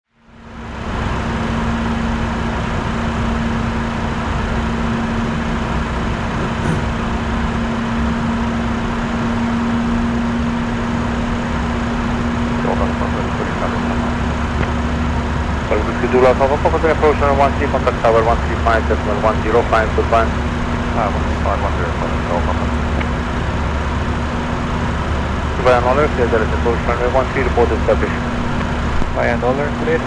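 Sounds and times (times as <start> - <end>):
constant low hum: 0.2 - 30.0
jet airflow and engine noise: 0.3 - 30.0.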